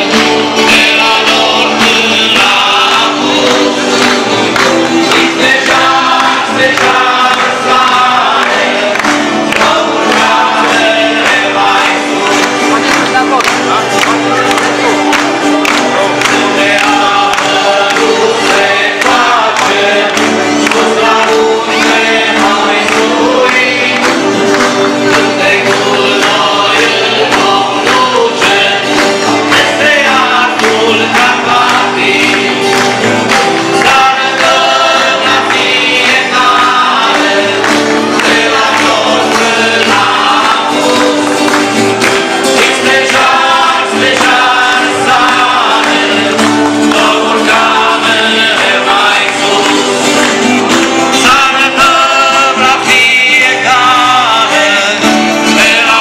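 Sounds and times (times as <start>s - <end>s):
audience clapping along: 0.0s - 56.0s
group of voices singing: 0.0s - 56.0s.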